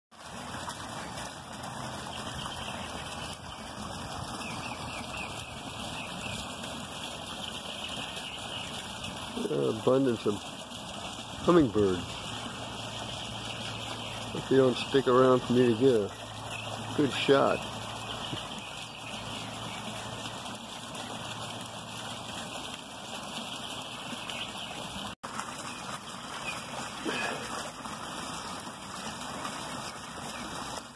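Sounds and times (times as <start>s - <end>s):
water splashing and trickling: 0.1s - 30.9s.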